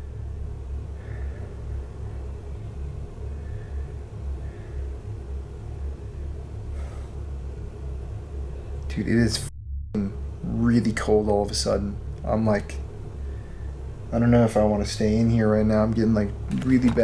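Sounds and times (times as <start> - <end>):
faint steady hum: 0.0 - 17.0
low rumble: 0.0 - 17.0.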